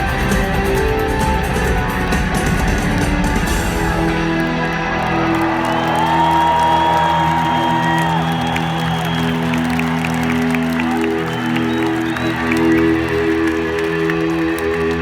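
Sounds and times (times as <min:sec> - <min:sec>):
rock band playing electric guitars: 0:00.0 - 0:15.0.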